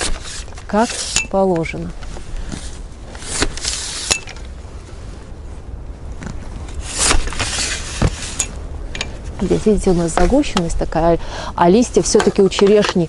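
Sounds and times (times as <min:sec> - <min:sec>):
rustling twigs: 0:00.0 - 0:10.8
steady low rumble: 0:01.4 - 0:12.5.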